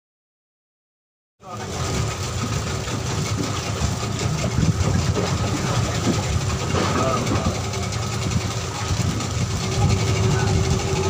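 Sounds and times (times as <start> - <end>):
boat motor running: 1.4 - 11.0.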